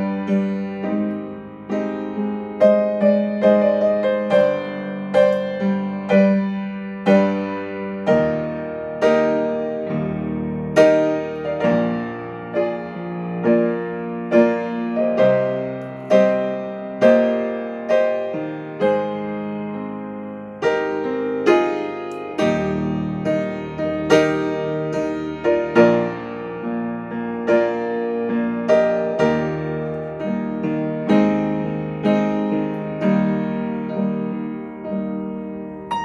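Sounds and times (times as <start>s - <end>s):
piano notes played slowly: 0.0s - 36.0s.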